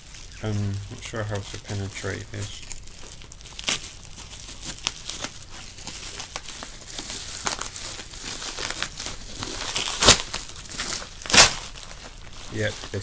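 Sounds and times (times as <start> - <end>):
packaging crinkling and crackling: 0.0 - 13.0.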